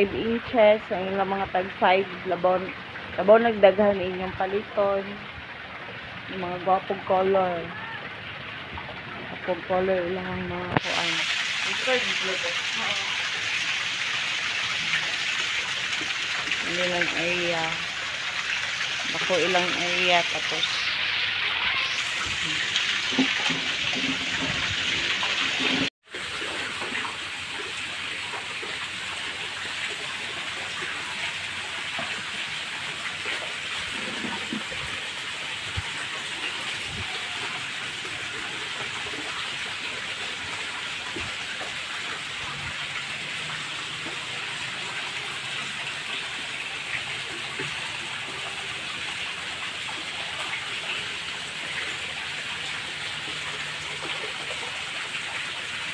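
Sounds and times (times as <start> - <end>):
water pouring into pond: 0.0 - 55.9.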